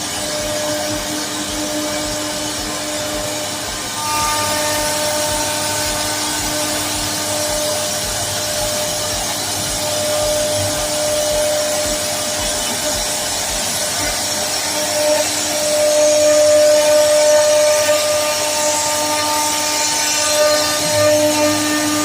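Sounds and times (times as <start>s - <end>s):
wood router whining: 0.0s - 22.0s.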